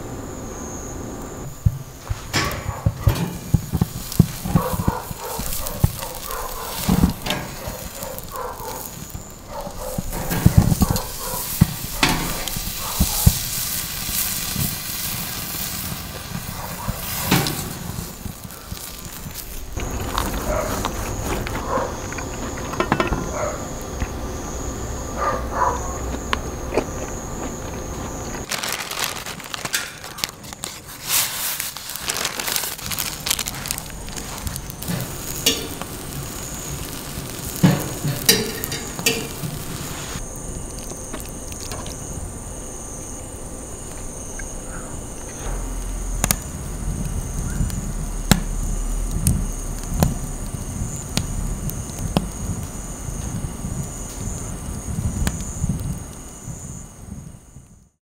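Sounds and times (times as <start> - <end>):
fire crackling and sizzling: 0.0 - 58.0
insects chirping: 0.0 - 58.0.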